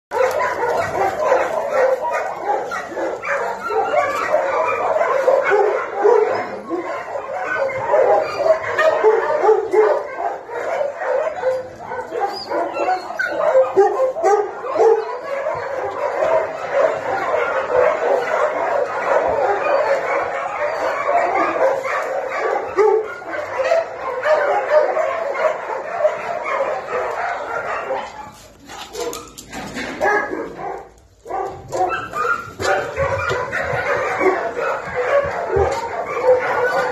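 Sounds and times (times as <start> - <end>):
many dogs barking: 0.1 - 36.9.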